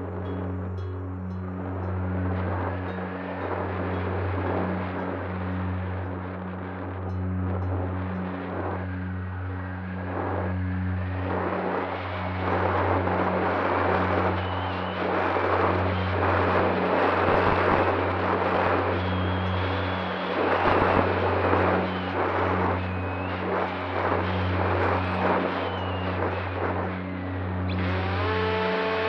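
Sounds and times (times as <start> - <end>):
propeller motor humming: 0.0 - 29.0.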